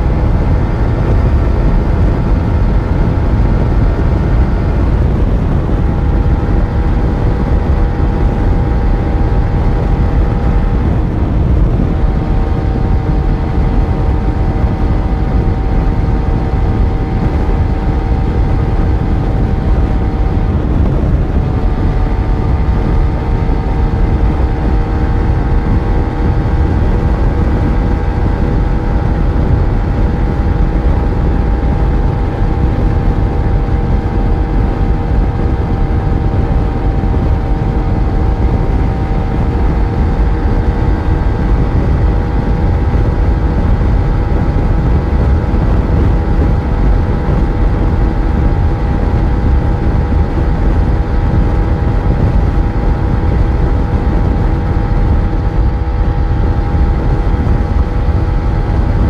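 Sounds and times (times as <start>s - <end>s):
motorcycle engine cruising: 0.0s - 59.0s
wind and road rush: 0.0s - 59.0s.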